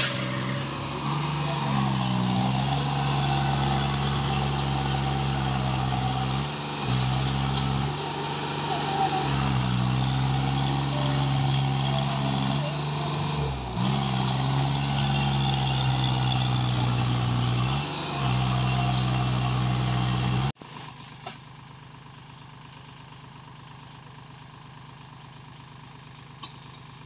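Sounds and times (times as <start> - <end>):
quieter engine running steadily: 0.0 - 17.0, 17.6 - 27.0
tractor engine running hard: 0.0 - 27.0.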